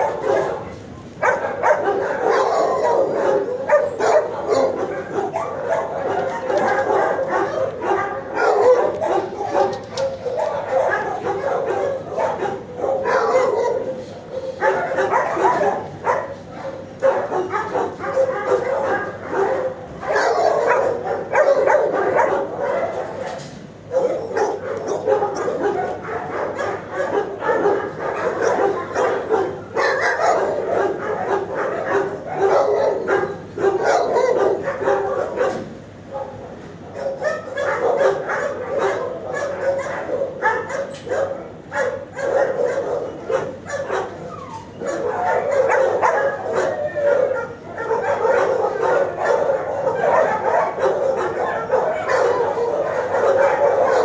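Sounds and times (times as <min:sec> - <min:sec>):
dogs barking: 0:00.0 - 0:54.0.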